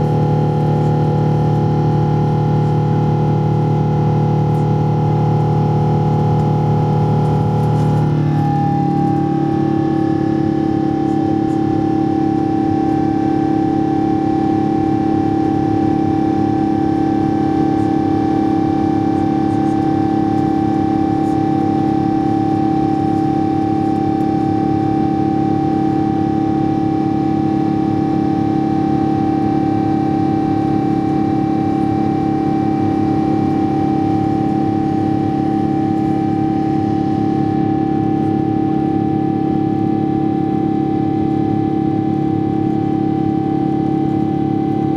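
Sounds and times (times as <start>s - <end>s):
jet engine roar in cabin: 0.0s - 44.9s.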